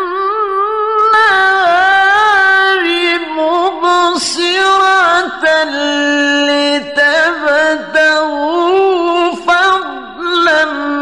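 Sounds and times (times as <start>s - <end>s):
man chanting melodic recitation: 0.0s - 11.0s.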